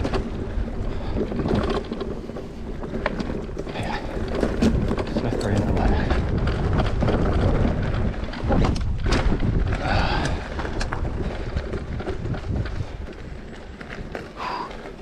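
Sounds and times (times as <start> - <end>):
bike clicking and rattling on roots: 0.0 - 15.0
electric mountain bike rumble: 0.0 - 15.0
wind buffeting microphone: 0.0 - 15.0.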